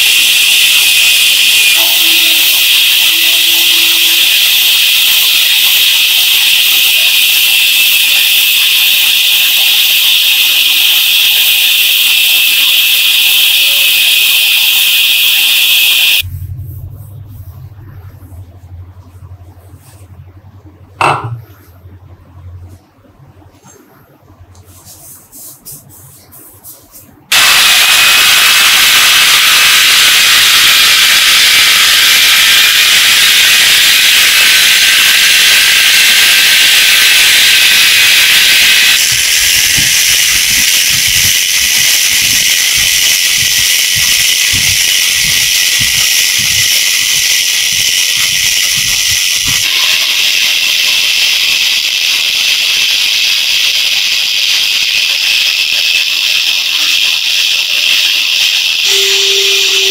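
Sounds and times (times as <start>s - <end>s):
sanding disc hissing on metal: 0.0s - 16.2s, 24.8s - 59.9s.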